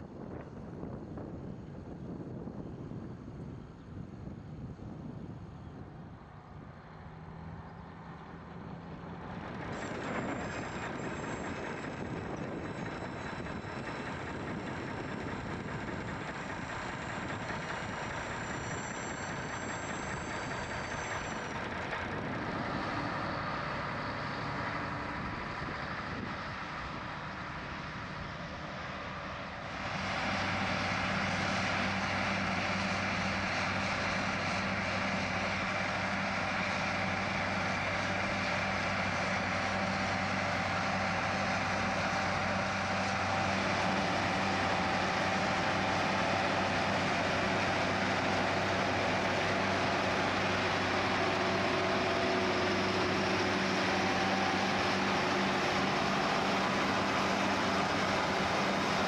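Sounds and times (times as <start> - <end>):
diesel tractor engines droning: 0.0 - 59.0.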